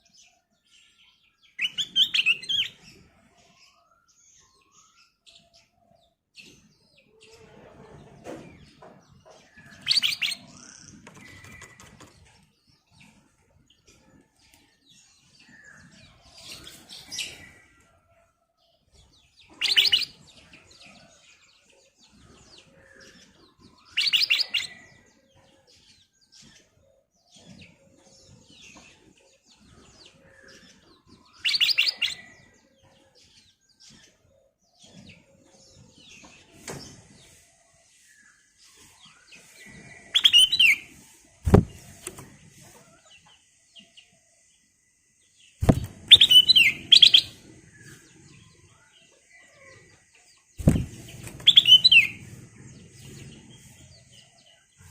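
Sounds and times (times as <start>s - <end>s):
bird singing rapid phrases: 0.0s - 7.4s, 8.5s - 17.8s, 18.7s - 21.0s, 21.6s - 54.9s
bird chirps and twitters: 0.0s - 14.2s, 19.1s - 20.7s, 21.7s - 36.4s, 38.1s - 44.0s, 45.5s - 54.9s.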